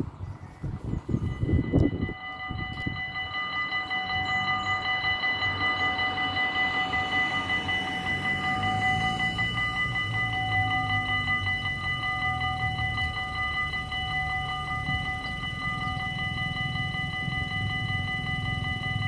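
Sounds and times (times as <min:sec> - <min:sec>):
level crossing bells ringing: 0:01.0 - 0:19.0.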